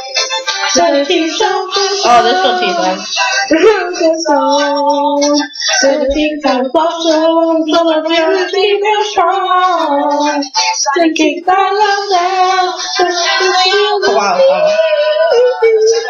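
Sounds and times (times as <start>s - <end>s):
young female voices singing: 0.0s - 16.0s.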